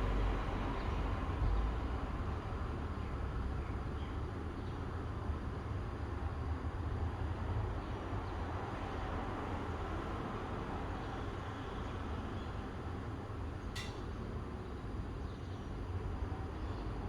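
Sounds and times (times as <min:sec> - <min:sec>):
outdoor ambient rumble: 0:00.0 - 0:17.0.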